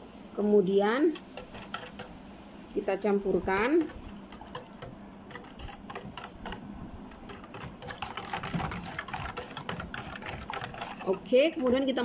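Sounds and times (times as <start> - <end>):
whisk clicking against metal bowl: 1.1 - 2.2, 3.3 - 12.0.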